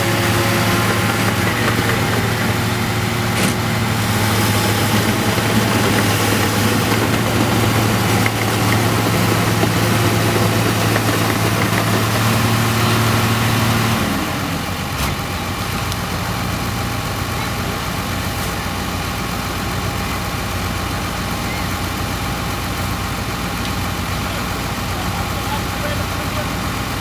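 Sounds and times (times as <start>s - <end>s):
harvester engine running: 0.0s - 27.0s.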